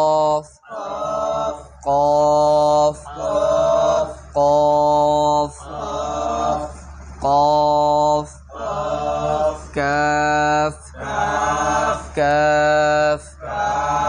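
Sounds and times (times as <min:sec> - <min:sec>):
group of voices chanting: 0:00.0 - 0:14.0
man chanting: 0:00.0 - 0:14.0.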